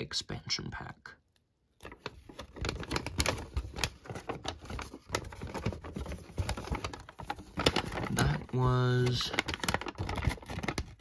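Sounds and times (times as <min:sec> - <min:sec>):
paper rustling and crinkling: 0:01.8 - 0:11.0.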